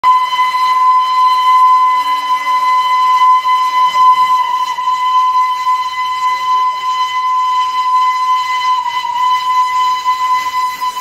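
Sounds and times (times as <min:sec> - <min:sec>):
long high whistle: 0:00.0 - 0:11.0.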